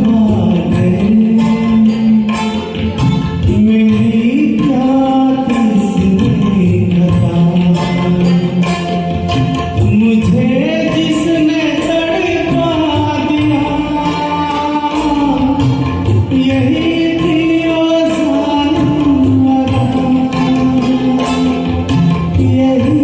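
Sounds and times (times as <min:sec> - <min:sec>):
karaoke backing track: 0:00.0 - 0:23.0.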